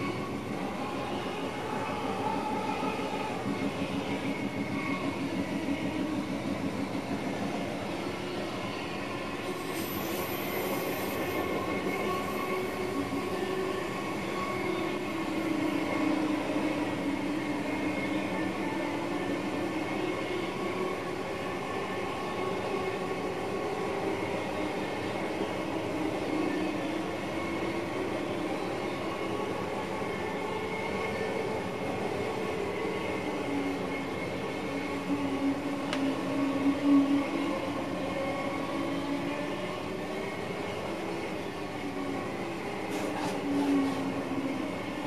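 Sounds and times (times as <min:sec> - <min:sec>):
train rumble with humming tones: 0:00.0 - 0:45.0.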